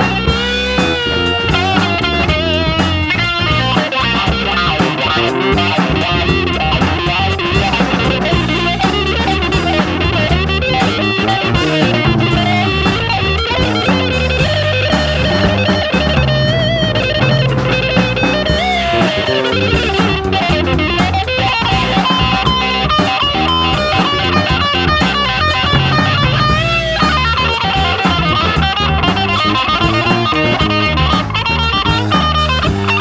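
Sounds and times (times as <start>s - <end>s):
drums: 0.0s - 33.0s
electric bass: 0.0s - 33.0s
electric guitar lead with bends: 0.0s - 33.0s.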